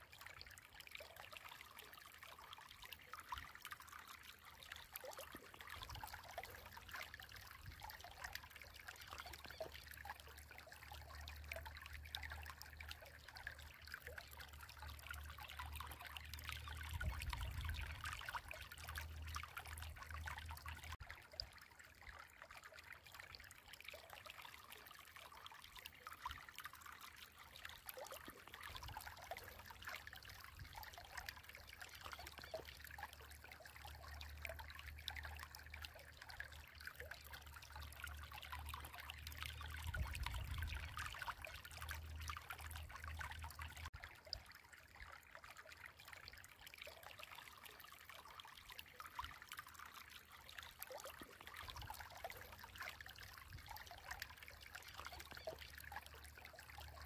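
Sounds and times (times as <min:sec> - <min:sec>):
faint trickling water: 0:00.0 - 0:57.0.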